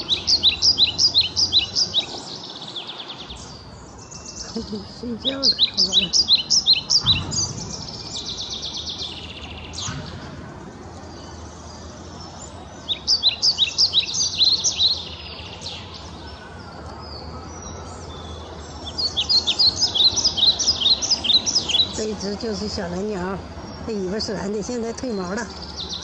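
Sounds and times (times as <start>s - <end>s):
bird chirping and trilling: 0.0s - 26.0s.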